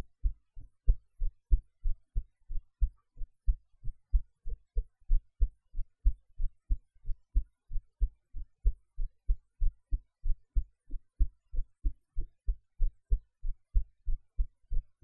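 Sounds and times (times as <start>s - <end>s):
heartbeat thumps: 0.0s - 15.0s.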